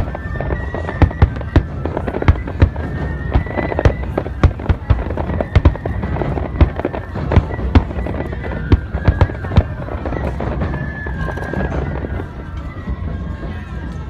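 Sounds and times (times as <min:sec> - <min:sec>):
fireworks banging: 0:00.0 - 0:14.0
flute holding a high note: 0:00.0 - 0:14.0.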